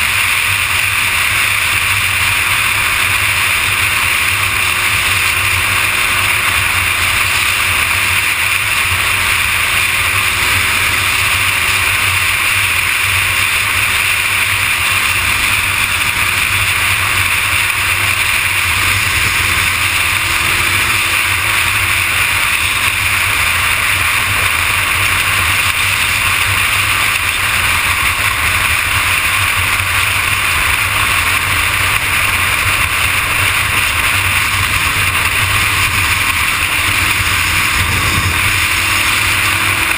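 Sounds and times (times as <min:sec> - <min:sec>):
motorcycle engine cruising: 0:00.0 - 0:39.9
wind rushing over a camera: 0:00.0 - 0:39.9.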